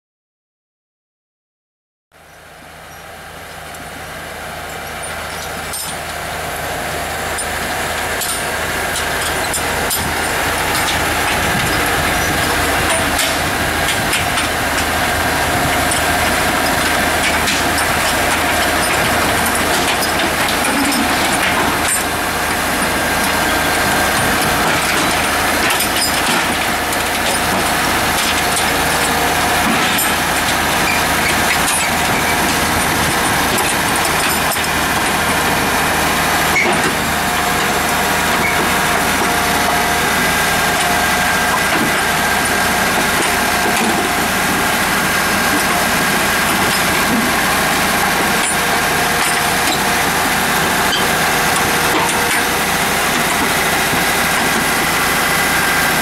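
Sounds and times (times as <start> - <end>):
diesel engine running under load: 2.2 - 56.0
steady whine: 2.2 - 56.0.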